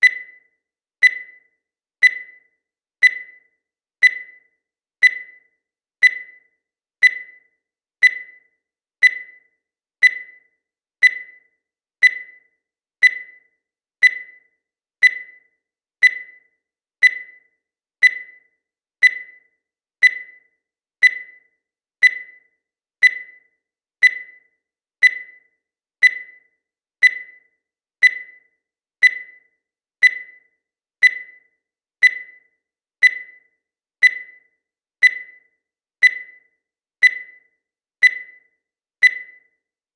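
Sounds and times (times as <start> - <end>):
countdown timer beeping: 0.0 - 39.7.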